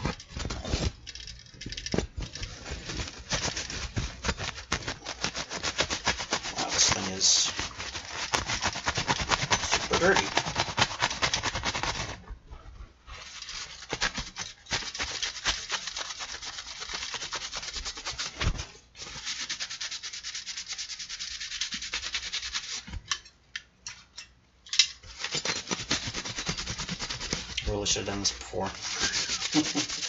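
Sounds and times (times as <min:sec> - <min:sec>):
scrubbing on cpu cooler: 0:02.3 - 0:12.2, 0:13.2 - 0:22.9, 0:25.1 - 0:30.0.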